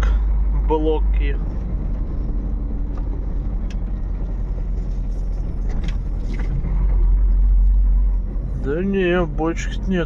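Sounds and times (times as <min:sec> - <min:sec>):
diesel engine and road noise: 0:00.0 - 0:10.0.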